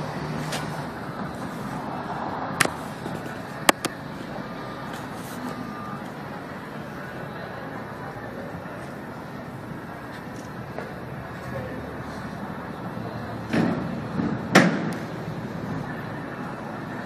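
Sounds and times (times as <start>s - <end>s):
traffic hum: 0.0s - 17.0s.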